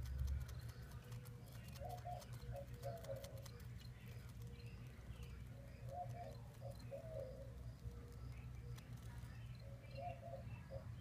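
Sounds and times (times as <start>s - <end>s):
bird cooing: 1.0s - 11.0s.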